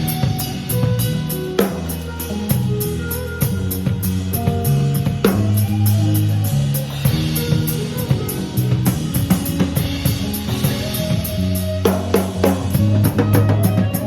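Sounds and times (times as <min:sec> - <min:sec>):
bass guitar notes: 0:00.0 - 0:14.0
instrumental rock band: 0:00.0 - 0:14.0.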